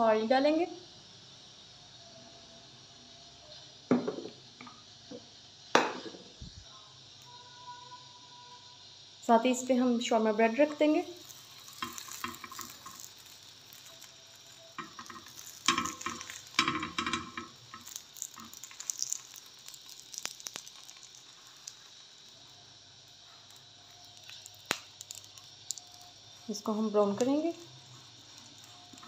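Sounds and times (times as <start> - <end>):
oil sizzling and crackling: 0.0 - 7.8, 8.4 - 29.0.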